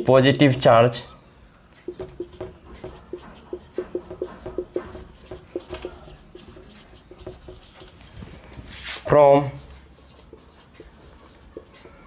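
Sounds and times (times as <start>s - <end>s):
marker pen writing on whiteboard: 1.8s - 12.0s.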